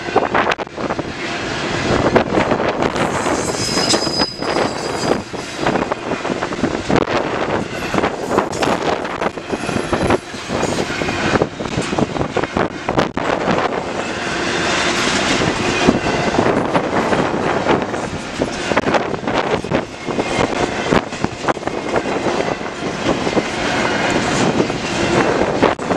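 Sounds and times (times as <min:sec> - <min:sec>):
wind noise on microphone: 0:00.0 - 0:25.9
freight train wheels rattling: 0:00.8 - 0:25.9.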